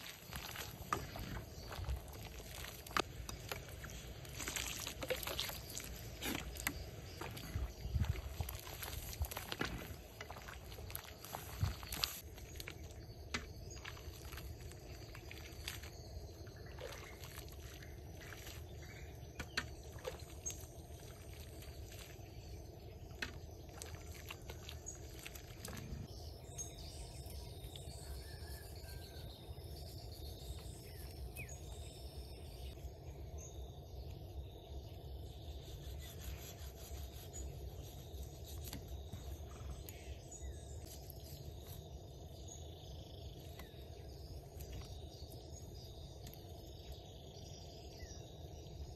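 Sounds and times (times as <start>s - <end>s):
insects chirping faintly: 0.0s - 48.9s.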